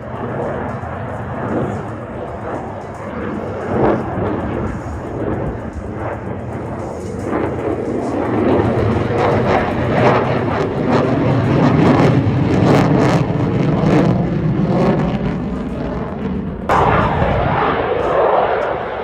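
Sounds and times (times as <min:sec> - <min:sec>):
jet engine running loud: 0:00.0 - 0:19.0.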